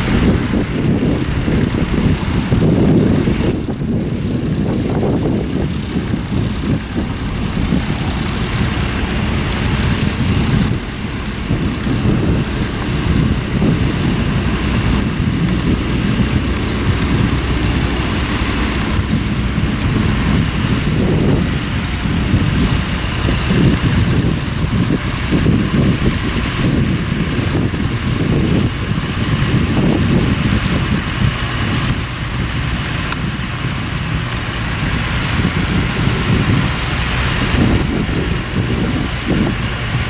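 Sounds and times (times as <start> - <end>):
tractor engine running: 0.0 - 40.0
wind buffeting microphone: 0.0 - 40.0.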